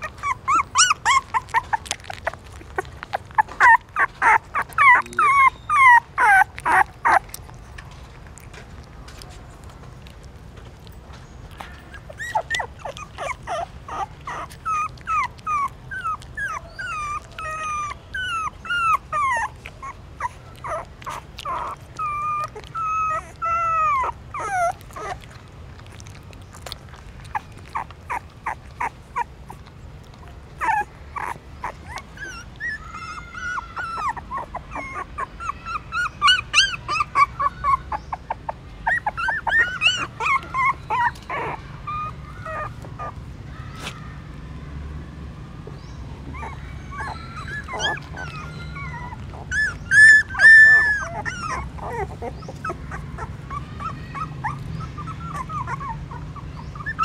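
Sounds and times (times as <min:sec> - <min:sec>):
puppies whimpering: 0:00.0 - 0:44.4, 0:45.6 - 0:57.0.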